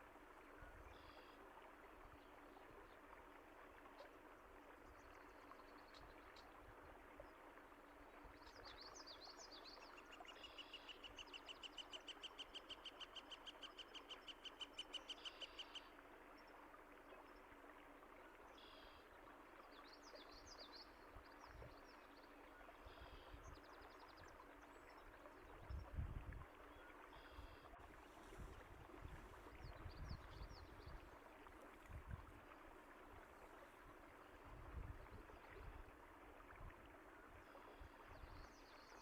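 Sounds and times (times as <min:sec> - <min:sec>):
running water: 0:00.0 - 0:39.0.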